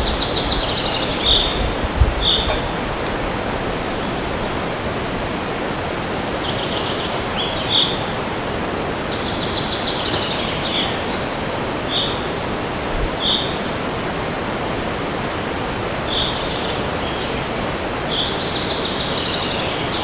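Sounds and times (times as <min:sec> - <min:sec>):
small birds chirping: 0:00.0 - 0:12.6, 0:15.6 - 0:20.0
wind through trees: 0:00.0 - 0:20.0.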